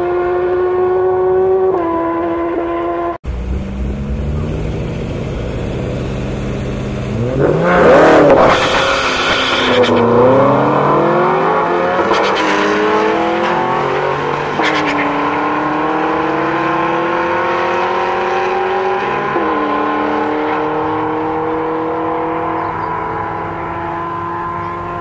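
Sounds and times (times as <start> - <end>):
drag racing cars accelerating: 0.0 - 25.0.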